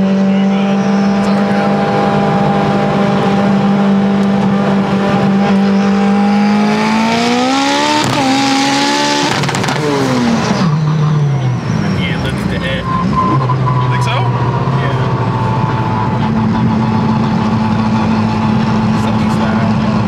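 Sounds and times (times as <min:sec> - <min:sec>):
turbocharged car engine revving: 0:00.0 - 0:20.0.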